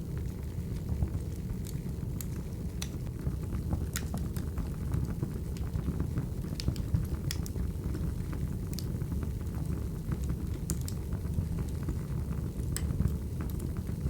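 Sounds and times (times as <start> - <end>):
fire crackles and pops: 0.0 - 14.0
flames rumbling: 0.0 - 14.0.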